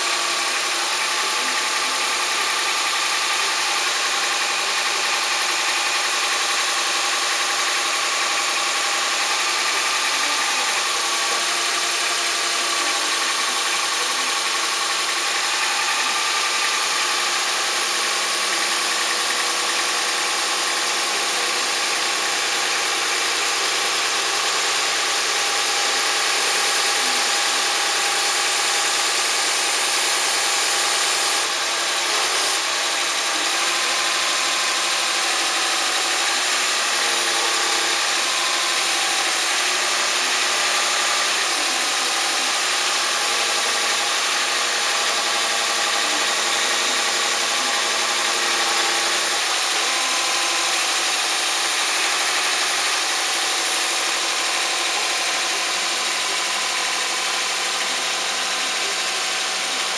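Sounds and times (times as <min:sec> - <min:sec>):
machine running with hiss and hum: 0:00.0 - 0:59.9.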